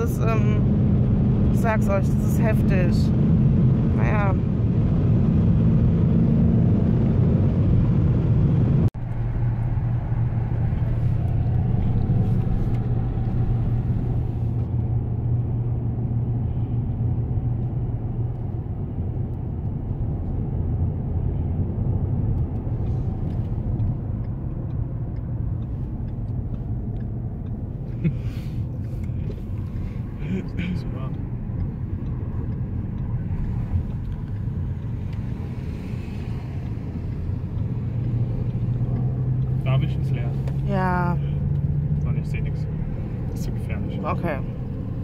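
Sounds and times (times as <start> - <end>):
low engine drone: 0.0 - 45.0
tyre and road noise: 0.0 - 45.0.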